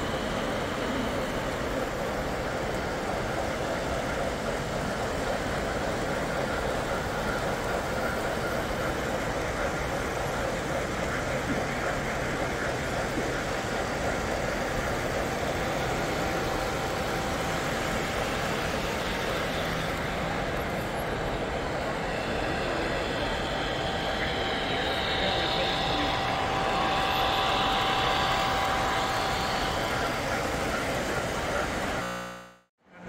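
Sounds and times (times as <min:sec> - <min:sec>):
background rumble and murmur: 0:00.0 - 0:33.0.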